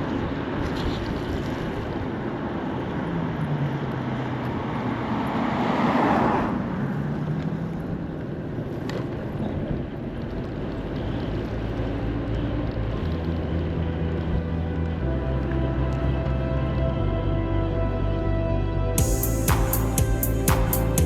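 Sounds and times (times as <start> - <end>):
wind and road noise: 0.0 - 21.0.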